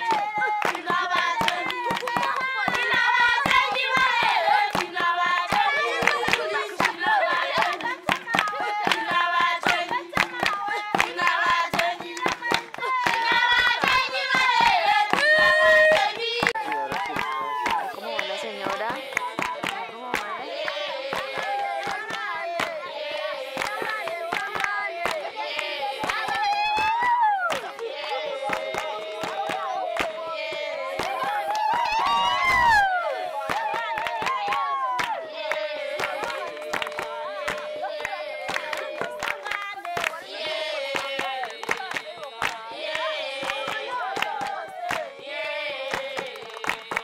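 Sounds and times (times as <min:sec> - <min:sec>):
hands clapping: 0:00.0 - 0:47.0
women and children singing: 0:00.0 - 0:47.0.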